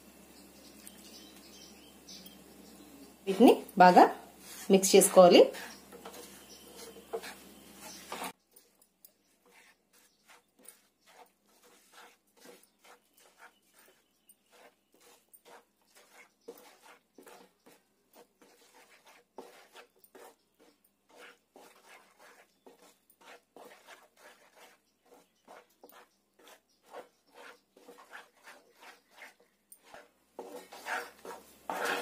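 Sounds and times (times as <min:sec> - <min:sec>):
wooden spatula scraping pan: 0:03.3 - 0:08.4, 0:09.3 - 0:32.0.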